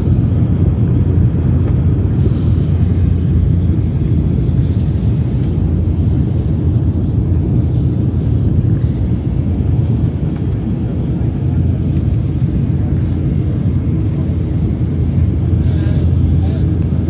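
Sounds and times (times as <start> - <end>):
vehicle rumbling in motion: 0.0 - 17.0.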